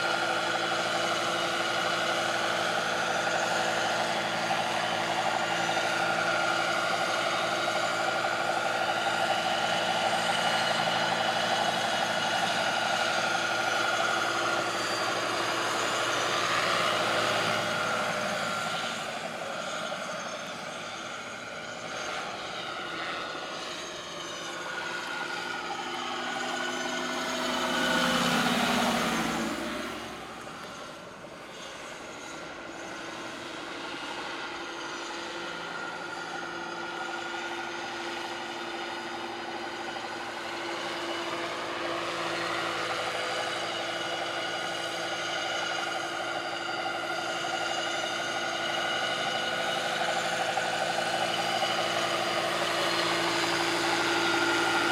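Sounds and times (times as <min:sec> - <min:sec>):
model helicopter whine and rotor: 0:00.0 - 0:54.9.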